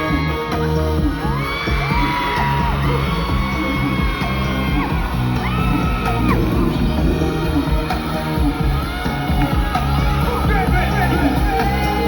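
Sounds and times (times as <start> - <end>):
crowd screaming and cheering: 0.0 - 12.0
live pop music with heavy bass: 0.0 - 12.0.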